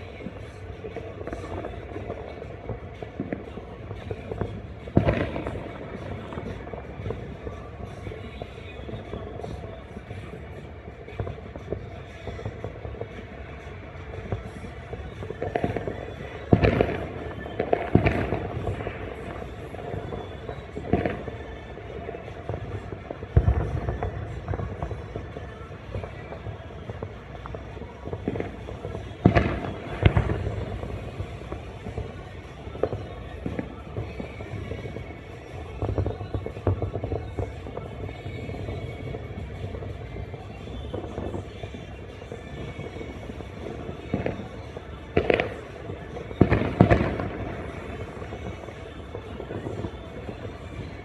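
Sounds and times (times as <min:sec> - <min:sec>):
fireworks bangs: 0:00.0 - 0:51.0.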